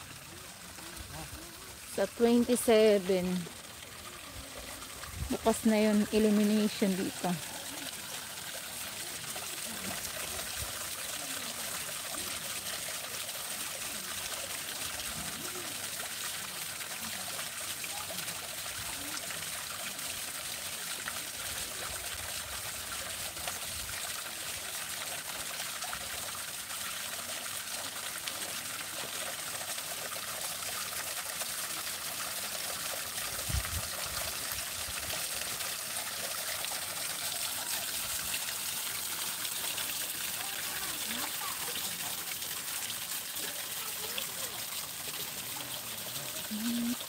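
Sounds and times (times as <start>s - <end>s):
water trickling into pool: 0.0s - 47.0s.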